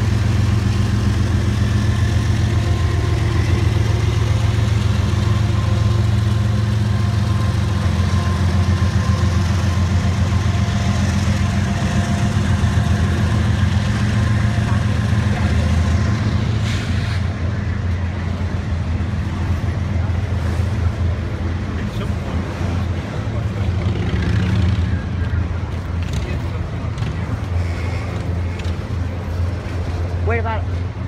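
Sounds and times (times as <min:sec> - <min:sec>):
diesel locomotives droning: 0:00.0 - 0:31.0.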